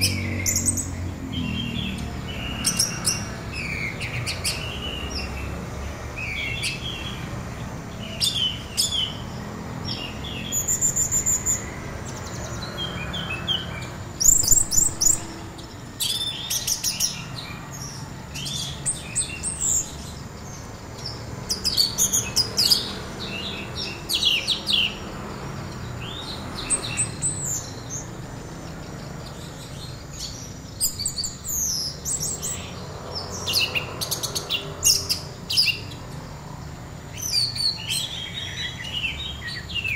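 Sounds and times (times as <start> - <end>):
thrush singing chirps and whistles: 0.0 - 36.3, 37.0 - 39.9.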